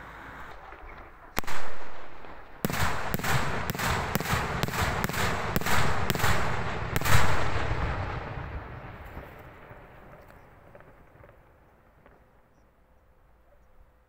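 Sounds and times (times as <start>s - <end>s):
echoing rumble: 0.0s - 11.6s.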